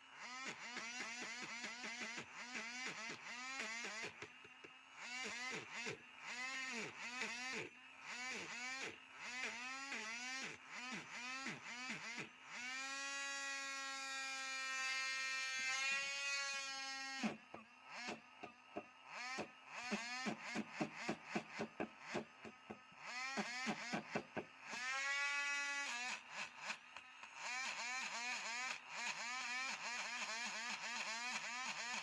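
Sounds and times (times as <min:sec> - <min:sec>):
power tool motor whining: 0:00.0 - 0:32.0.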